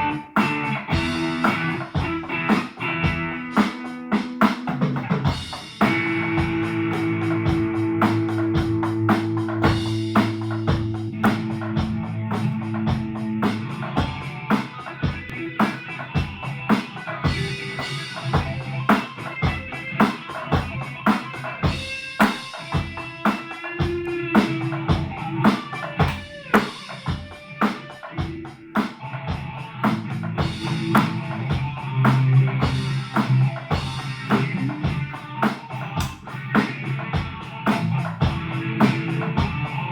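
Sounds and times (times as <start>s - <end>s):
electric guitar chords and riffs: 0.0s - 39.9s
heavy rock drums: 0.0s - 39.9s.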